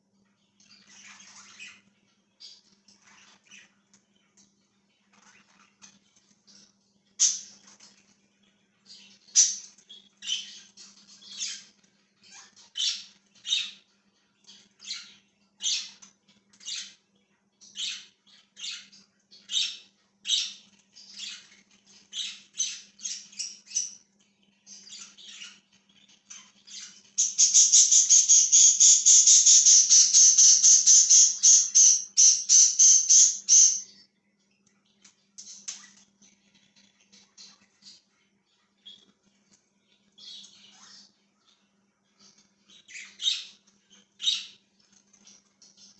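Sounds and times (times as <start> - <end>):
faint low hum: 0.0 - 45.9
budgies chirping: 0.2 - 45.9
budgies rapid chatter: 0.6 - 3.7, 4.9 - 34.1, 39.8 - 45.9.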